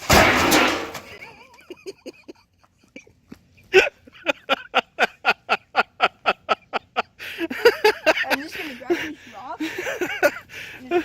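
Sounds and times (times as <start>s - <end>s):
person laughing: 1.1s - 11.0s.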